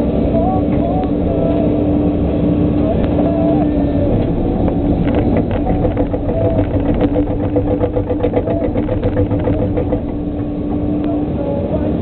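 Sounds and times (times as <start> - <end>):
excavator diesel engine running: 0.0 - 12.0
pulsing whine: 0.0 - 12.0.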